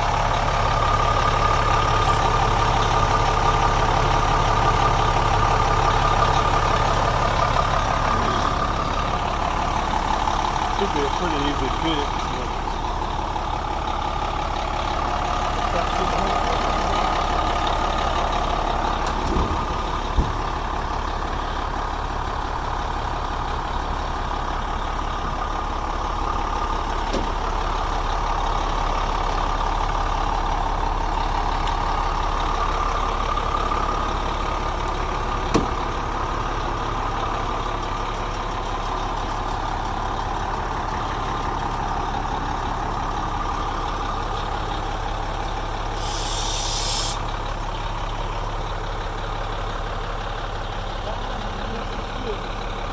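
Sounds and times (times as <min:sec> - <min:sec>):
truck engine idling: 0:00.0 - 0:52.9.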